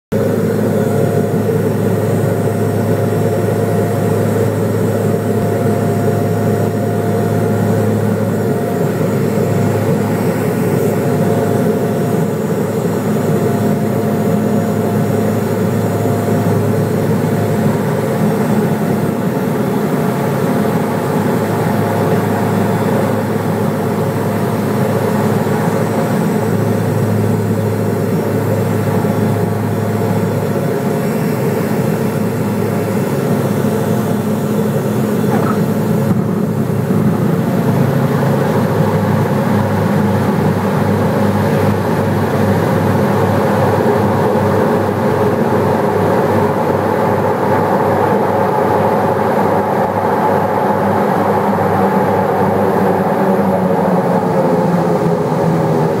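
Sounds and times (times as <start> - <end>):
propeller engines droning: 0.1 - 56.0.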